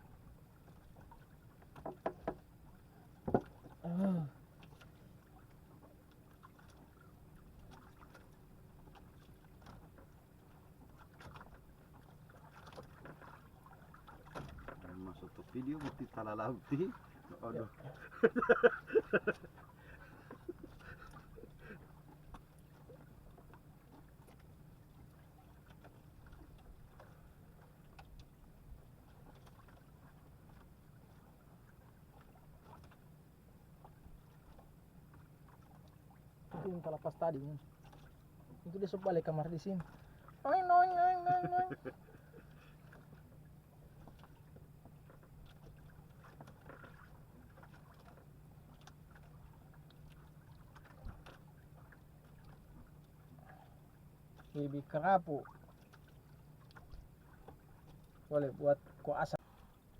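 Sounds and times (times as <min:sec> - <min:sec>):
low rumble of water: 0:00.0 - 0:59.9.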